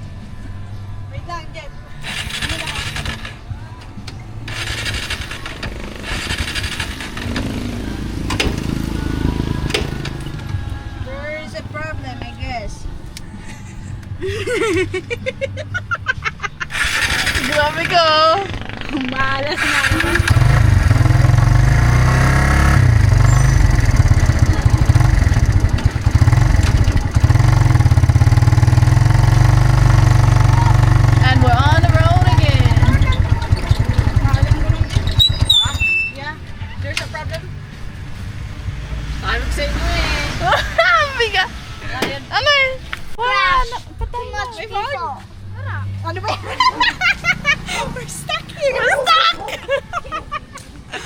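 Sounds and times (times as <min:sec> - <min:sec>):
vehicle engine rumbling: 0:00.0 - 0:43.2.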